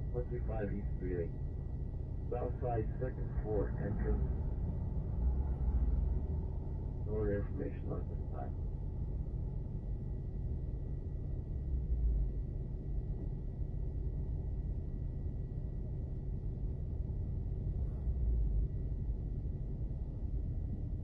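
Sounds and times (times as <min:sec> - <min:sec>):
car engine idling rumble: 0:00.0 - 0:21.0.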